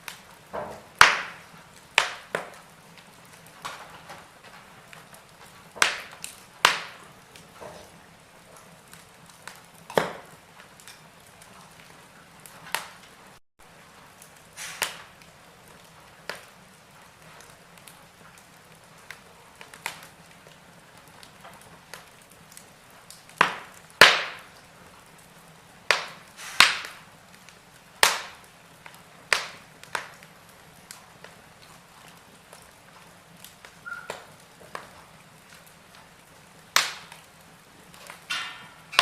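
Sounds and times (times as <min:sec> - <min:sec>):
faint steady hiss: 0:00.0 - 0:39.0
wood fire crackling and popping: 0:00.0 - 0:39.0.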